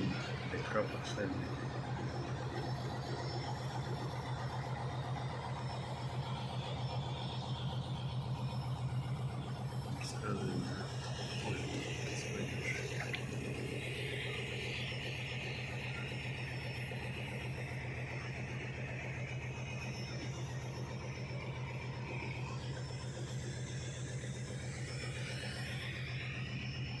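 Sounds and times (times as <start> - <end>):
low pulsing engine hum: 0.0 - 27.0.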